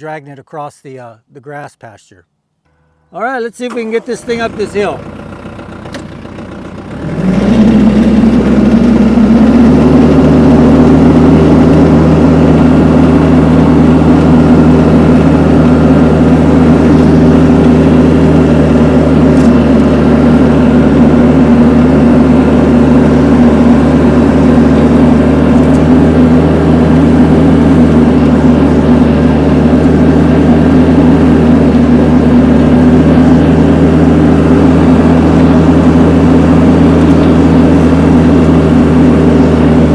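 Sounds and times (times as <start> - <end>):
tractor engine revving: 3.5 - 39.9.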